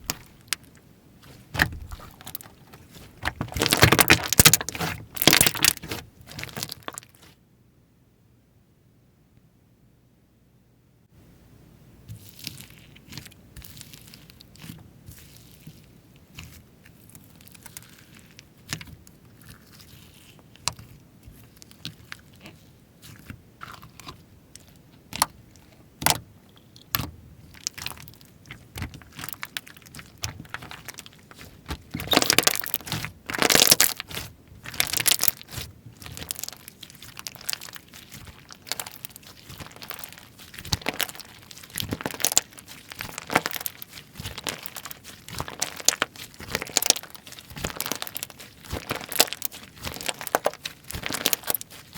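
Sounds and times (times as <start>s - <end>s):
slime crackling and popping: 0.0s - 7.4s, 12.1s - 51.9s.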